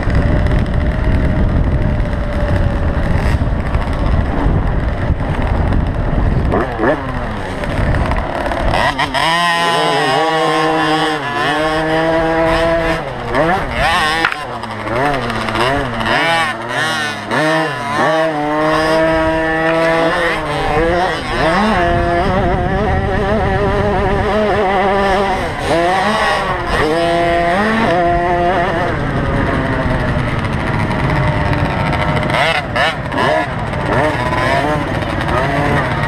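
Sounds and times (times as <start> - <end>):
motocross bike engines revving: 0.0 - 36.0.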